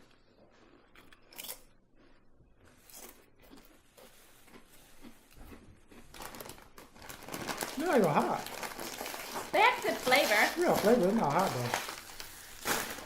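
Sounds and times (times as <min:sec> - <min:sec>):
potato chips being chewed: 0:00.0 - 0:13.0.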